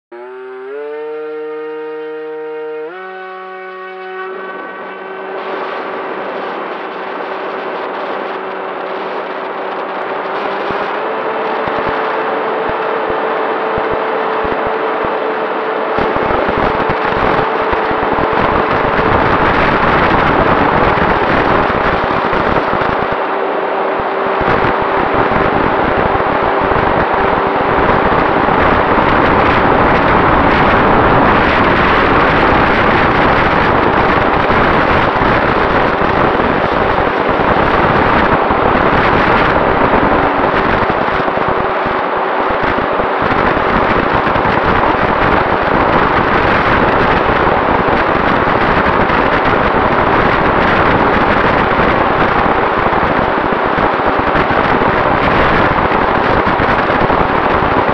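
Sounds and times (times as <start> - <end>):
wind rushing over microphone: 0.1 - 57.9.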